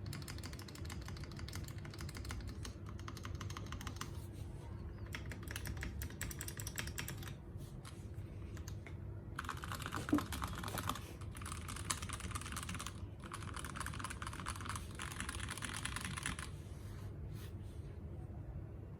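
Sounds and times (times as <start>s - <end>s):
mechanical keyboard typing: 0.0s - 4.2s, 5.0s - 8.0s, 8.6s - 16.6s.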